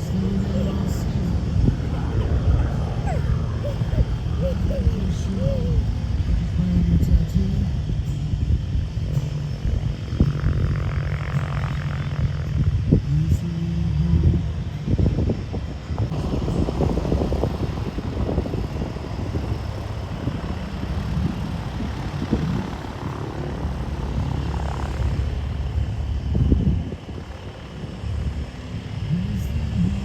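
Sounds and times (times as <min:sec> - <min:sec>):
propeller airplane engine running: 0:00.0 - 0:30.0.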